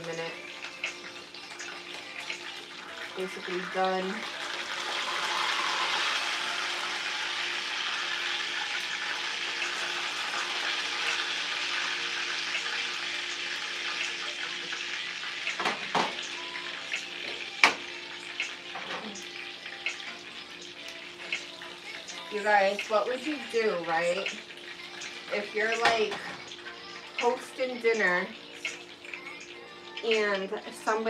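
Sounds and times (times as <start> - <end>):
chicken sizzling in a pan: 0.0 - 31.0.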